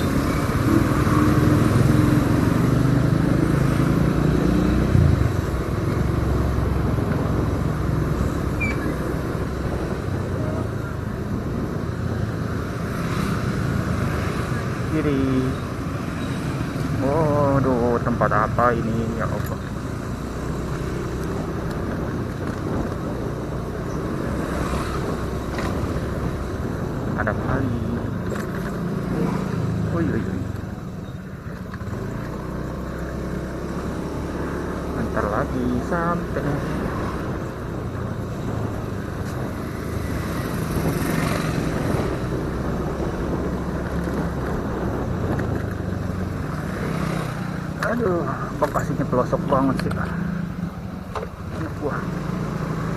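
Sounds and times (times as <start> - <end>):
motorcycle engine rumble: 0.0 - 52.9
road noise: 0.0 - 52.9
rushing wind: 0.0 - 52.9.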